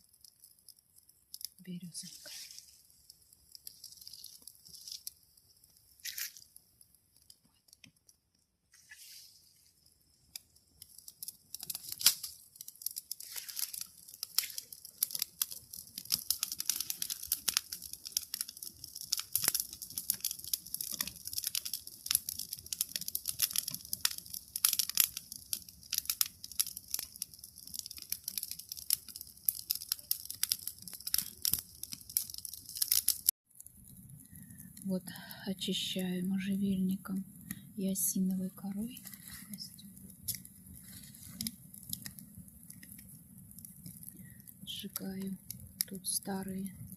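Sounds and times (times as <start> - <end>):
twigs crackling in fire: 0.0 - 46.9.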